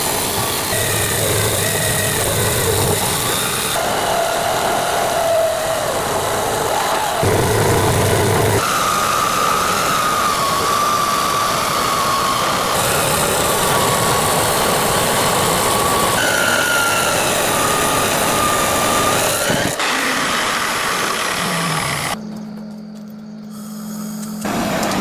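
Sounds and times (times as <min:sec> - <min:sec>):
power grinder grinding steel: 0:00.0 - 0:22.2.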